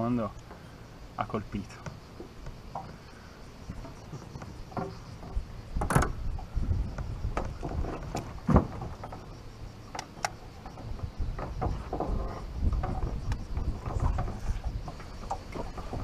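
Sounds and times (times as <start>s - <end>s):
wind rumble on microphone: 1.6s - 16.0s.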